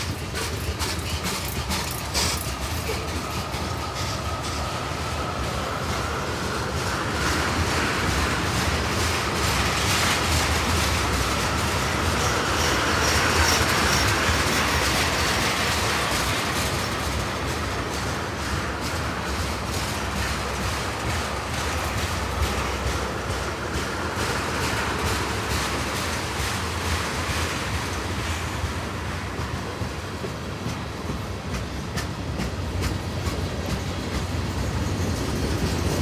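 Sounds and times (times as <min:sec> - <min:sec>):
freight train rolling past: 0:00.0 - 0:36.0
wheels clicking over rail joints: 0:00.0 - 0:36.0.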